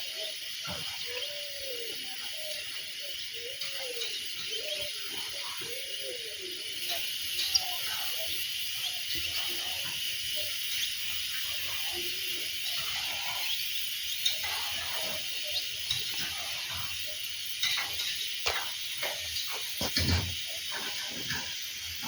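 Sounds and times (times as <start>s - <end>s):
small birds chirping: 0.0s - 22.0s
steady high hiss: 0.0s - 22.0s.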